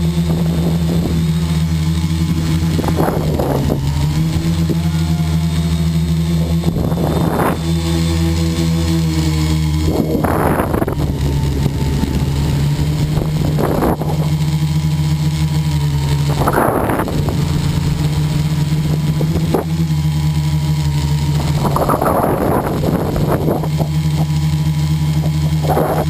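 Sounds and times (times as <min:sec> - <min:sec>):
model airplane motor running: 0:00.0 - 0:26.0
wind rushing over microphone: 0:00.0 - 0:26.0.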